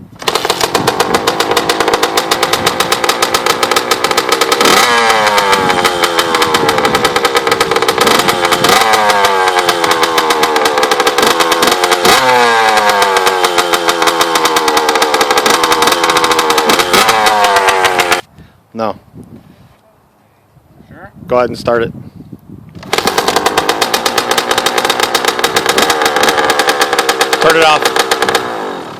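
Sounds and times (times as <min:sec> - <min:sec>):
two-stroke engine throttle blips: 0:00.0 - 0:18.3, 0:22.8 - 0:28.9.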